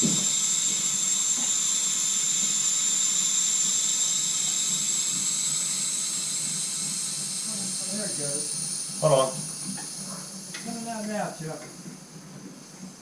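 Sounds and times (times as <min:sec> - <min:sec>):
hissing valve with whistle: 0:00.0 - 0:11.0.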